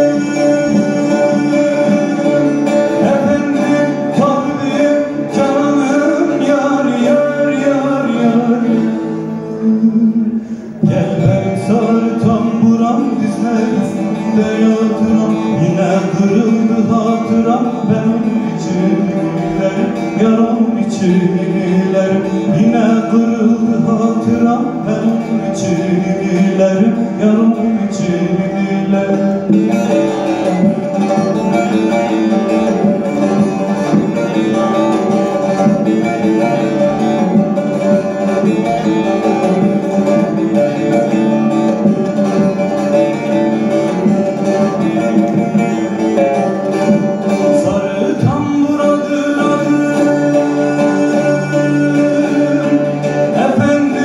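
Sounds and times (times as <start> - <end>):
plucked long-necked lute melody: 0.0 - 54.0.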